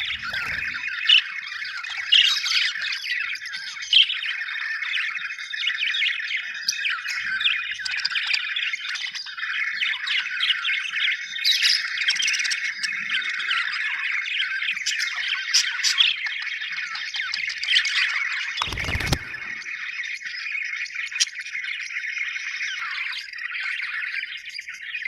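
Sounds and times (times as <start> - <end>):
budgerigars chirping and warbling: 0.0 - 25.0.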